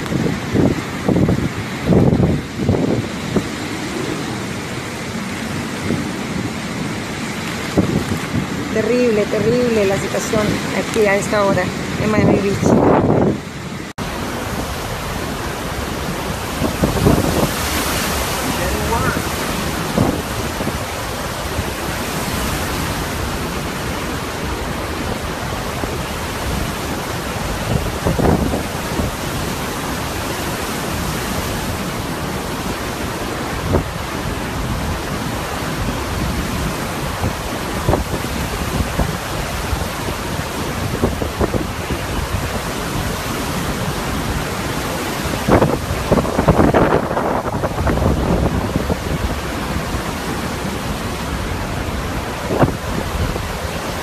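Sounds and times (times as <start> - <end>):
heavy driving rain: 0.0 - 54.0
storm wind: 0.0 - 54.0
wind buffeting microphone: 0.0 - 54.0.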